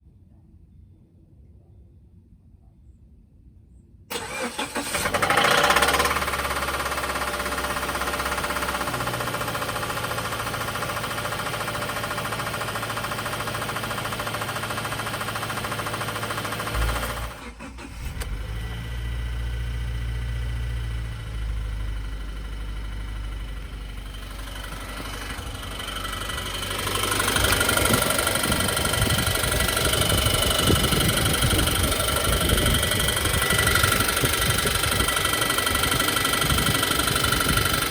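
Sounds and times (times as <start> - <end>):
car engine idling: 4.1 - 37.9
engine knocking: 4.2 - 18.1, 19.2 - 37.9.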